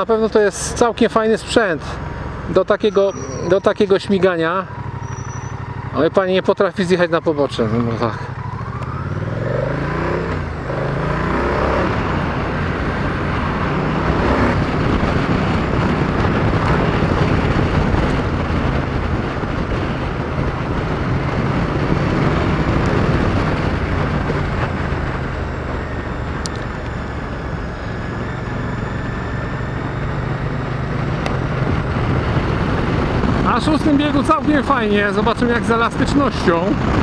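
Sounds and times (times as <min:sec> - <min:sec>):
heavy wind rush: 0:00.0 - 0:37.0
motorcycle engine running: 0:00.0 - 0:37.0.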